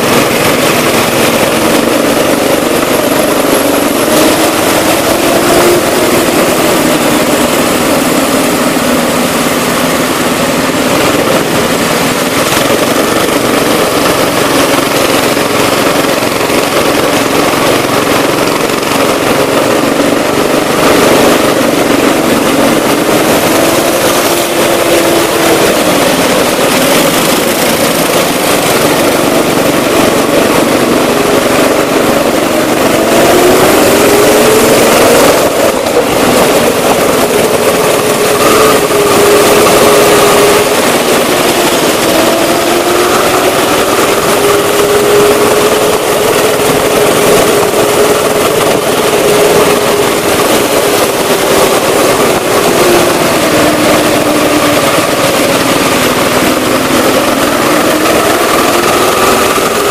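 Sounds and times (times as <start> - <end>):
go-kart engine running loudly: 0.0 - 59.9.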